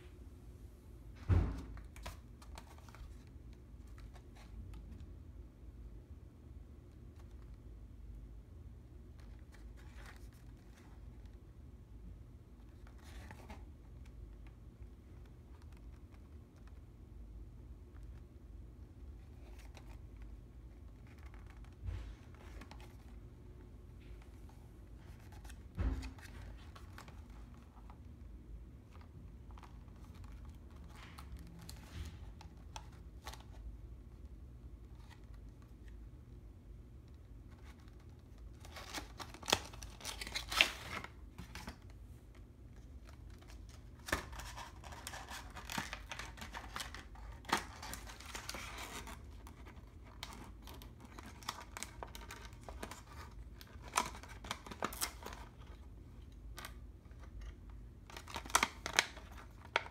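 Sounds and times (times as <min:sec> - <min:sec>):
plastic and card rustling: 0:01.3 - 0:05.2, 0:09.0 - 0:11.5, 0:12.5 - 0:36.3, 0:36.9 - 0:59.9.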